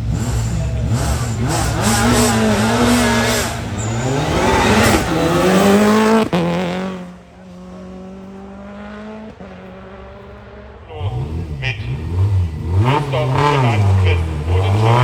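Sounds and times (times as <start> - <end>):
gearshift: 0.0 - 8.2, 10.7 - 15.0
race car engine revving: 0.0 - 15.0.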